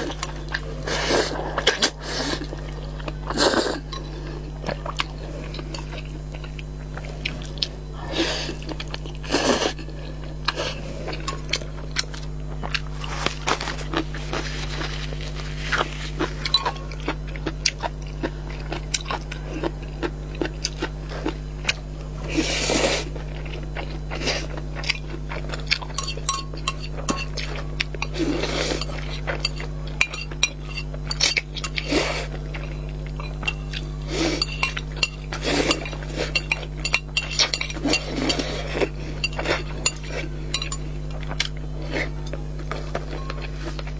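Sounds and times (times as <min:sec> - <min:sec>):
low hum: 0:00.0 - 0:43.9
noodles slurped and chewed: 0:00.0 - 0:43.9.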